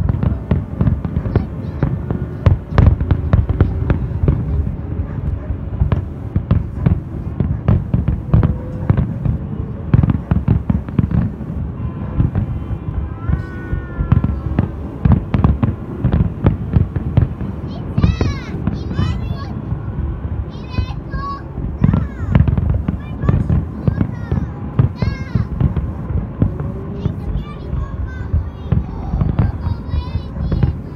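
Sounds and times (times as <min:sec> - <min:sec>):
fireworks bursting with bangs: 0:00.0 - 0:30.9.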